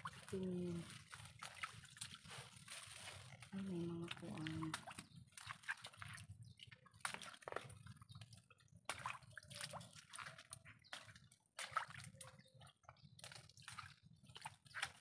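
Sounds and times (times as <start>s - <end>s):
shallow water sloshing and splashing: 0.0s - 15.0s.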